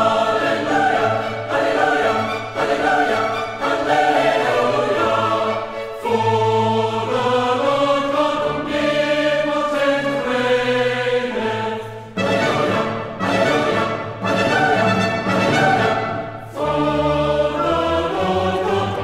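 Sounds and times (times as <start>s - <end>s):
choir singing sustained chords: 0.0s - 19.0s.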